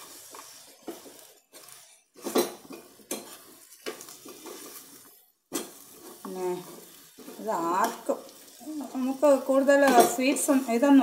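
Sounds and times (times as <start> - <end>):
metal spoon scraping a pan: 0.0 - 11.0.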